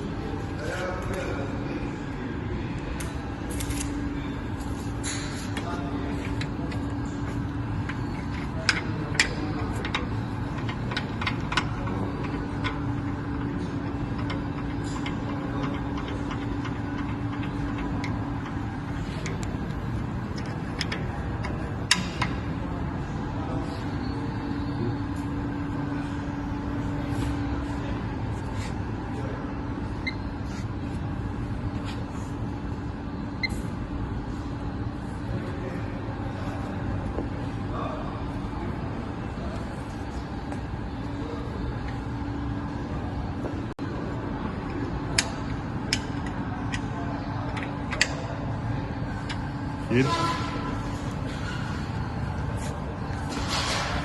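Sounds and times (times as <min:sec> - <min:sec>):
machinery hum: 0:00.0 - 0:54.0.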